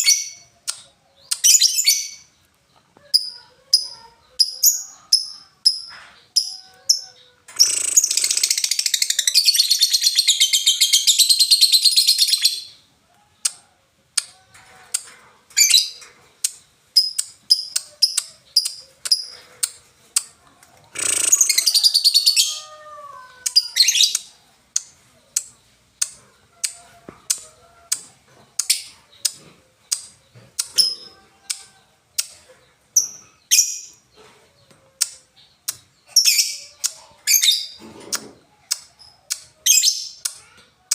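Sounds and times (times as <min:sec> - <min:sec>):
lovebird chirping and trilling: 0:00.0 - 0:02.4, 0:03.1 - 0:12.8, 0:15.5 - 0:22.8, 0:23.4 - 0:28.0, 0:28.6 - 0:34.3, 0:35.0 - 0:37.8, 0:38.7 - 0:40.6.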